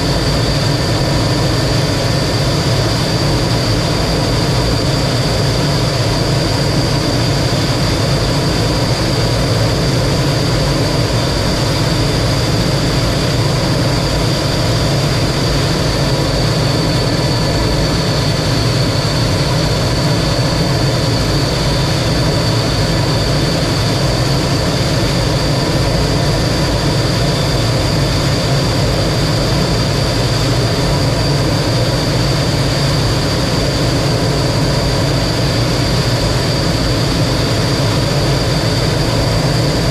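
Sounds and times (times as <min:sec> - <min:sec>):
jet engine roaring in flight: 0:00.0 - 0:39.9.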